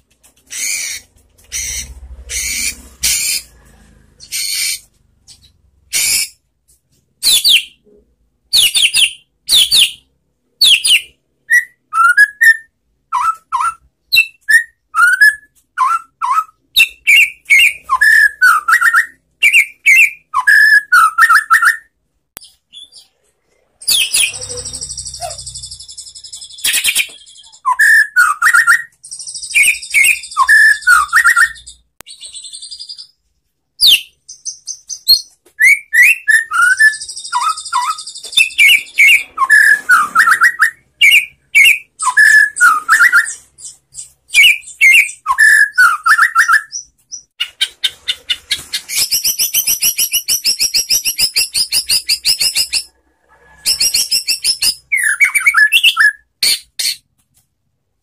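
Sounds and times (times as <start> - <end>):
bird singing trills and whistles: 8.5 - 23.2, 23.8 - 33.2, 33.8 - 52.9, 53.6 - 57.0.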